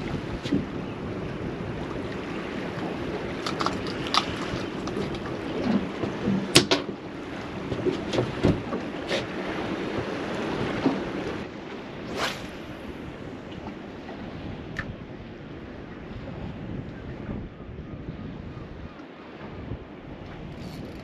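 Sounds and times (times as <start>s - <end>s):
wind noise: 0.0s - 21.0s.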